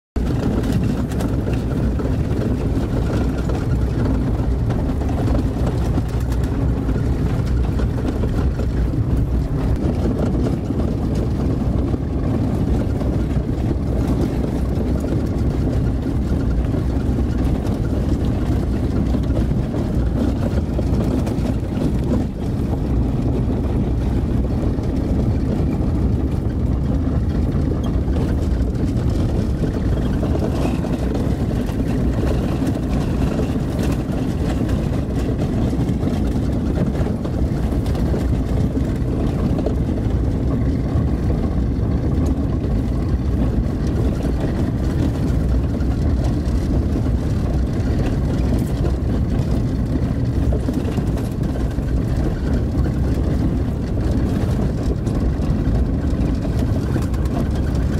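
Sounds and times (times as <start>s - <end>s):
vehicle driving on gravel: 0.2s - 57.9s.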